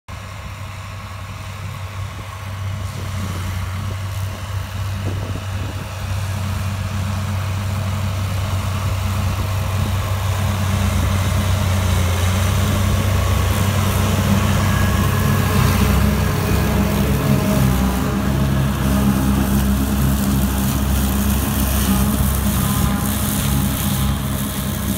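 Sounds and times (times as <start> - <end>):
mulcher cutting grass: 0.1 - 24.9
tractor engine humming: 0.1 - 24.9.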